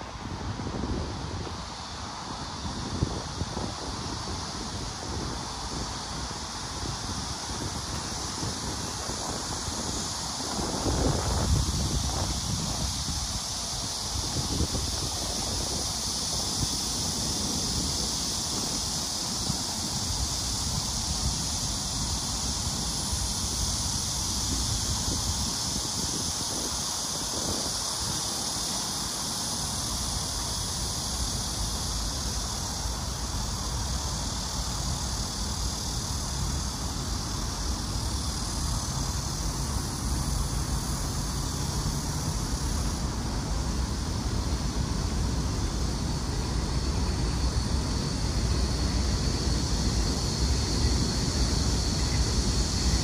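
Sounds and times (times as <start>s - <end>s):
road traffic rumble: 0.0s - 53.0s
wind: 0.0s - 53.0s.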